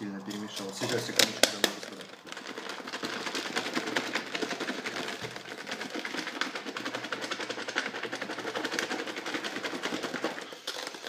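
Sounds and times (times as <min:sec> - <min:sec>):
plastic container clattering: 0:00.2 - 0:11.0.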